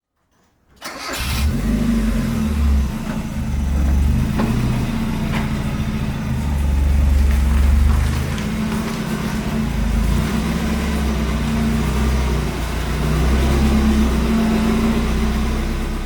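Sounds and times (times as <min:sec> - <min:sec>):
car engine revving: 0:00.9 - 0:16.0.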